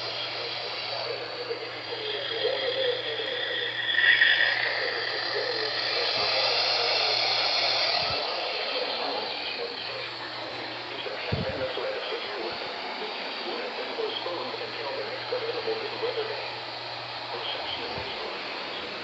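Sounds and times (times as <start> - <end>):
faint wavering radio sound: 0.0 - 19.0
loud radio burst: 0.0 - 19.0
radio static hiss: 0.0 - 19.0.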